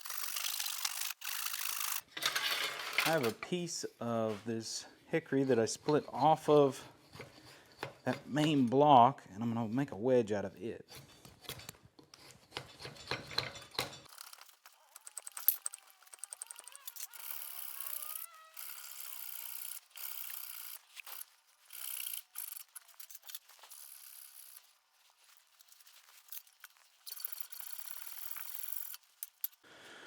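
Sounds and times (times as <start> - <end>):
hand tools scraping and rasping wood: 0.0 - 9.0, 10.8 - 29.6.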